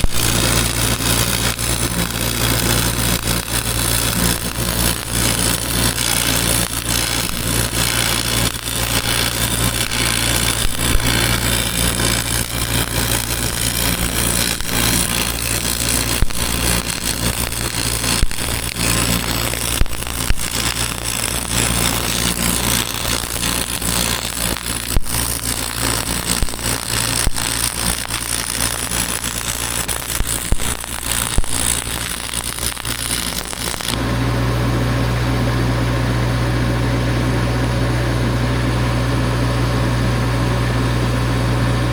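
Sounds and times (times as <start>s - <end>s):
welding arc crackling: 0.0s - 34.0s.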